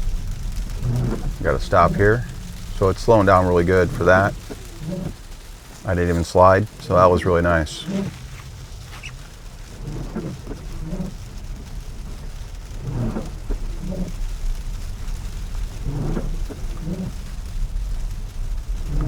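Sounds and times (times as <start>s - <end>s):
low cabin rumble: 0.0s - 19.0s
windshield wipers swishing: 0.0s - 19.0s.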